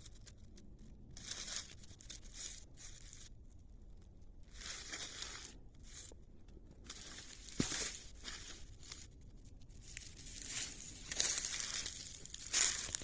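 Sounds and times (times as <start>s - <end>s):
rustling of dry vegetation: 0.0s - 13.0s.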